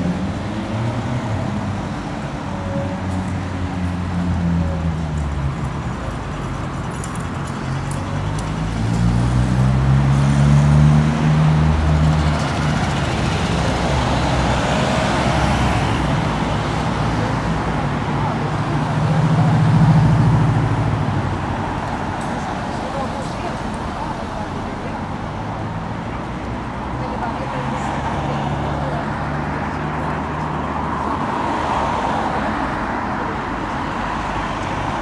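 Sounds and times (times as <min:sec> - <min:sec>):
tyre noise of passing car: 0:00.0 - 0:35.0.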